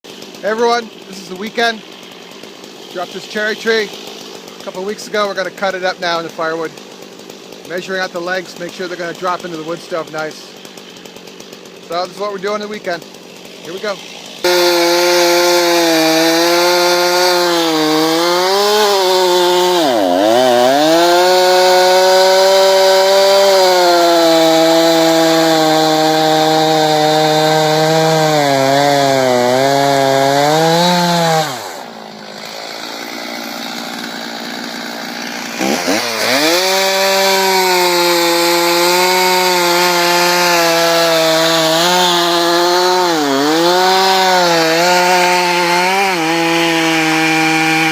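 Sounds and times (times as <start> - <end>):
chainsaw cutting logs: 0.0 - 47.9
chainsaw idling: 0.0 - 47.9.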